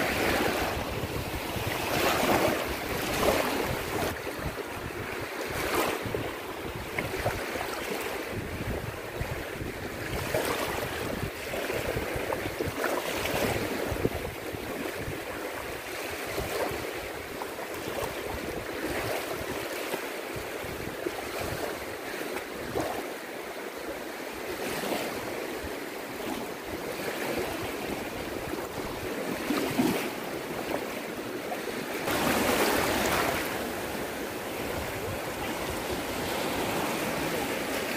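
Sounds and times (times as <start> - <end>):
small waves washing over sand: 0.0 - 37.9.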